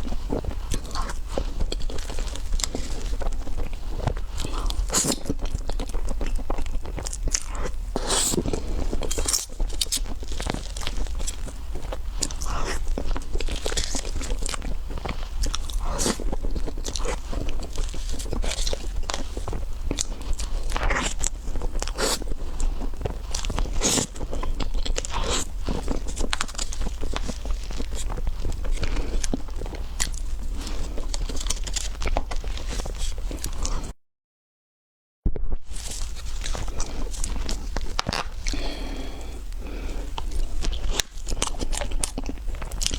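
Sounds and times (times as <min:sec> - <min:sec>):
crunchy chewing: 0:00.0 - 0:33.9, 0:35.7 - 0:42.9.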